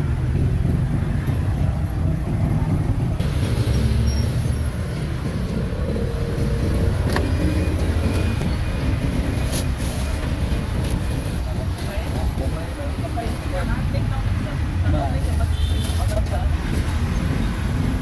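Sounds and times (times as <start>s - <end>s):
passing traffic rumble: 0.0s - 18.0s.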